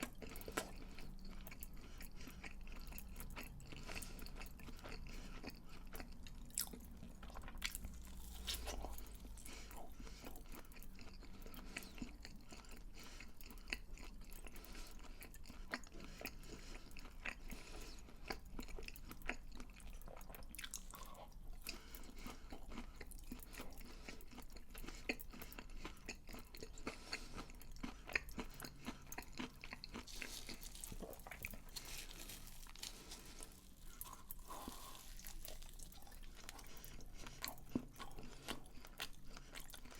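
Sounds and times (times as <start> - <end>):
chewing crunchy fried food: 0.0 - 39.9.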